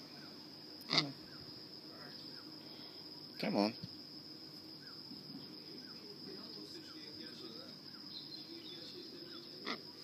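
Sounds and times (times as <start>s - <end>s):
crickets trilling: 0.0s - 10.0s
distant birds chirping: 0.0s - 10.0s.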